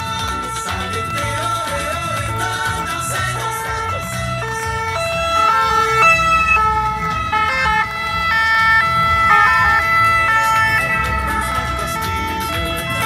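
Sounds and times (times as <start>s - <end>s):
low rumble of van engines: 0.0s - 13.0s
two-tone ambulance sirens: 0.0s - 13.0s.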